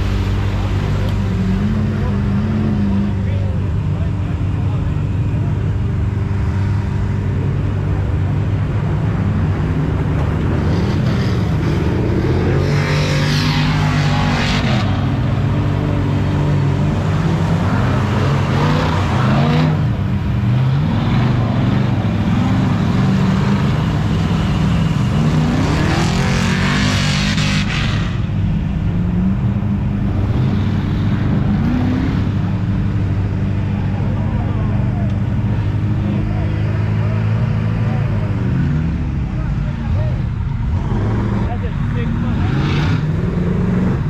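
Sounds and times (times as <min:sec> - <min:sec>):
truck engines revving: 0:00.0 - 0:44.0.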